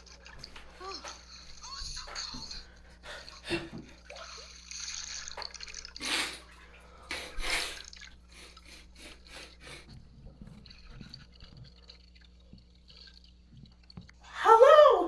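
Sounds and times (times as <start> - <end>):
water drips and ticks: 0.0 - 7.2, 7.8 - 14.4
rushes of water: 0.0 - 14.2
pool water noise: 0.0 - 15.0.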